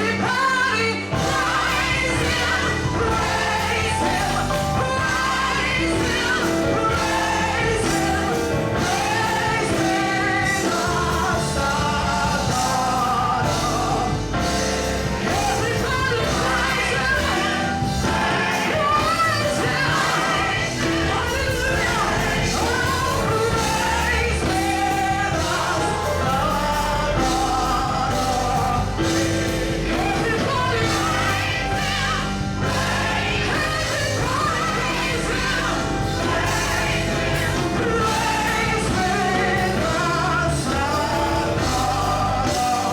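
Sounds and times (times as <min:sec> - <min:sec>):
gospel singing with live band: 0:00.0 - 0:42.9.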